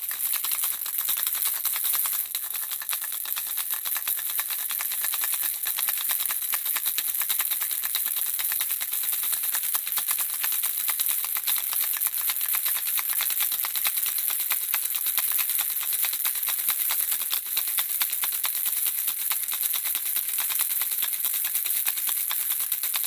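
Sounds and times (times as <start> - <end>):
baby rattle shaking: 0.0 - 23.0.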